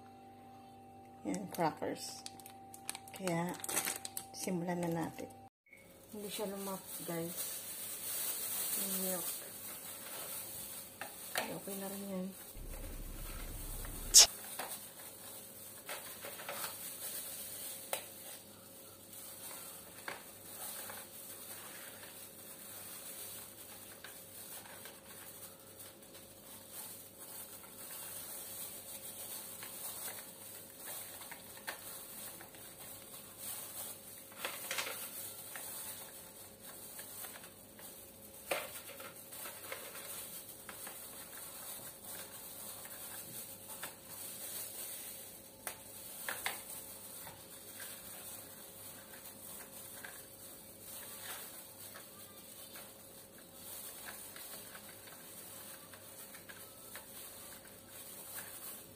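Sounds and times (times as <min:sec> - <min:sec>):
soft plastic crinkling: 0:01.3 - 0:05.0, 0:06.0 - 0:58.9.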